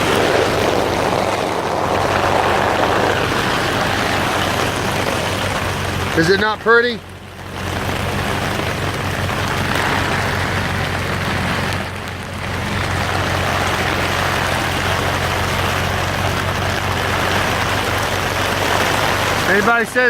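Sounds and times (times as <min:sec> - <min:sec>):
engine droning: 0:00.0 - 0:20.0
heavy rain hissing: 0:00.0 - 0:20.0.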